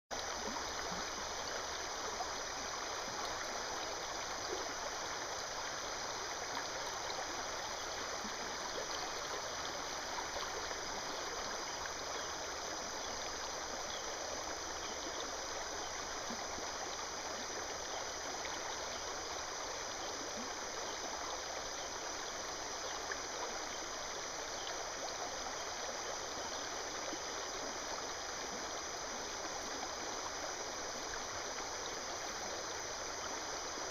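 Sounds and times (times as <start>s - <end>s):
river water running over rocks: 0.1s - 33.9s.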